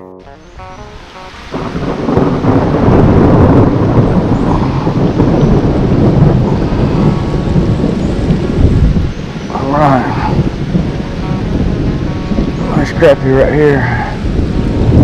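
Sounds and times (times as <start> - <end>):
heavy rain on a pond: 0.4 - 15.0.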